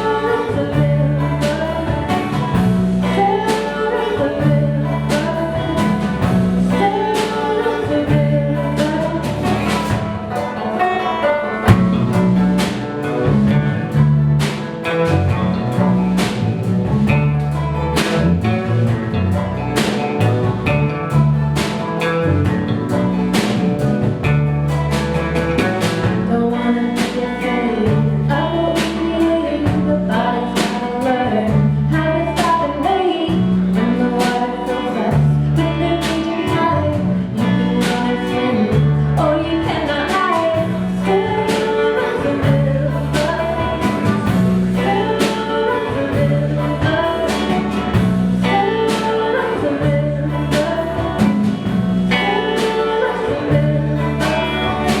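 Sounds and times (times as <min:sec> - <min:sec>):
banjo melody: 0:00.0 - 0:55.0
bass line: 0:00.0 - 0:55.0
drum beats: 0:00.0 - 0:55.0
folk band playing: 0:00.0 - 0:55.0.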